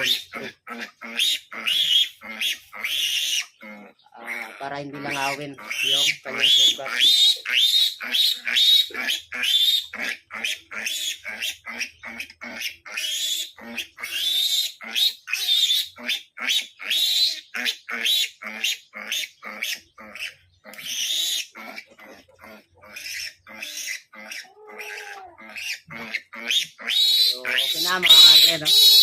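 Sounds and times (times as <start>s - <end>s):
piglets squealing: 0.0s - 29.0s.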